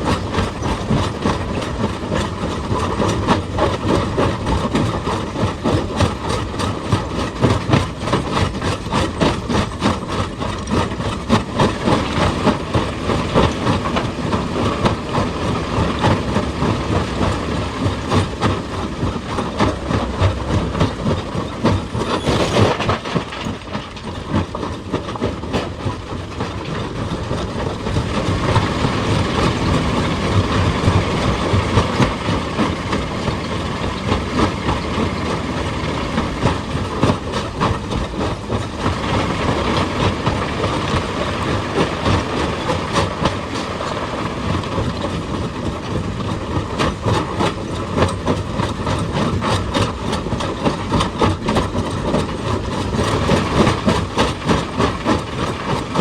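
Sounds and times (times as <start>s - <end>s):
heavy engine under load: 0.0s - 56.0s.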